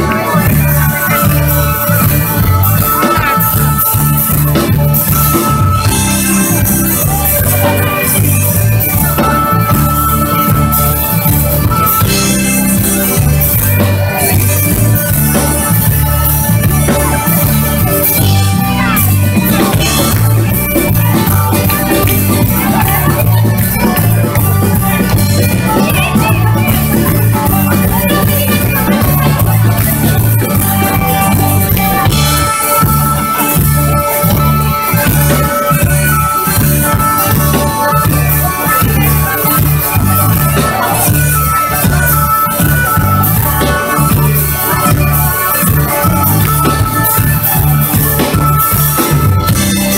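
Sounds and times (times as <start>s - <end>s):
folk band playing through pa: 0.0s - 49.9s
pulsing bass line: 0.0s - 49.9s.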